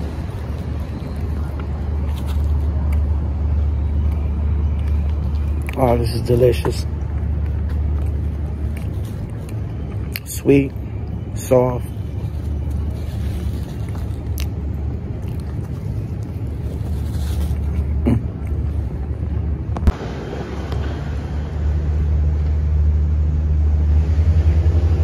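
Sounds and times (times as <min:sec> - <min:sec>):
street traffic engine rumble: 0:00.0 - 0:25.0.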